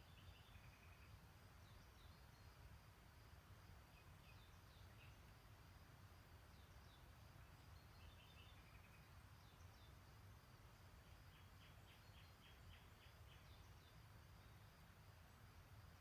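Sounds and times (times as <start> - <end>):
songbird chirps and trills: 0.0 - 16.0.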